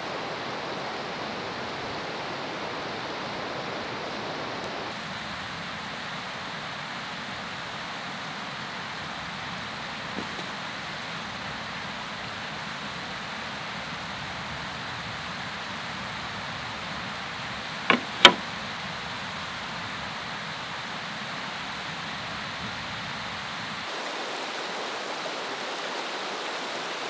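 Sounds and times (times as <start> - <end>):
steady outdoor rushing noise: 0.0 - 27.0.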